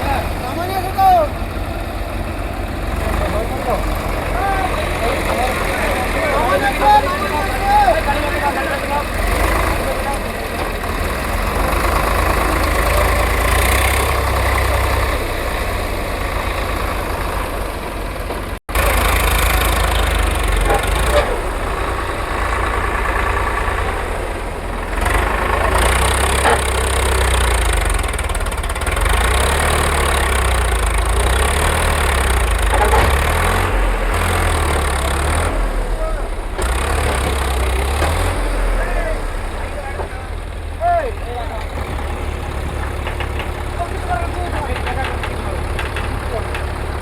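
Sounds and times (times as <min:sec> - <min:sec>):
tractor engine idling: 0:00.0 - 0:47.0.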